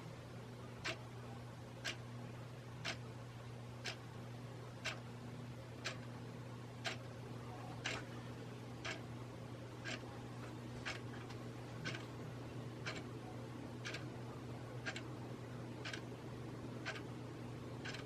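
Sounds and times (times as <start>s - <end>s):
ceiling fan motor humming: 0.0s - 18.0s.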